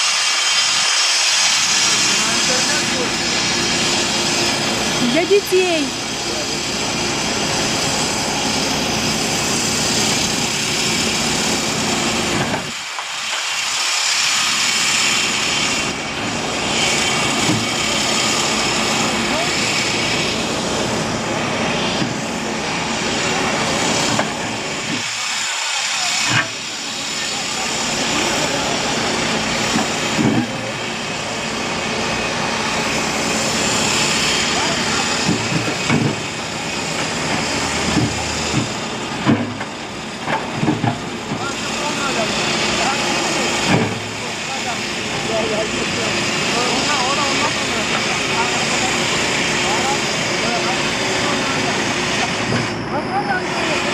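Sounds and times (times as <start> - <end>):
backhoe loader engine running: 0.0 - 53.9.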